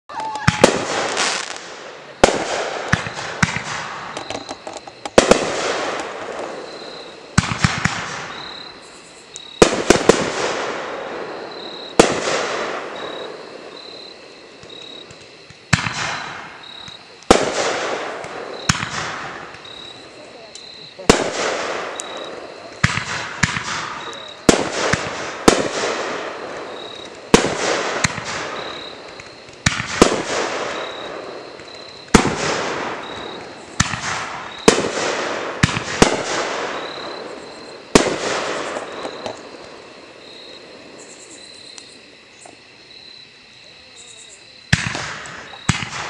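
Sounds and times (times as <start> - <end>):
fireworks bangs: 0.1 - 42.6, 44.0 - 46.0.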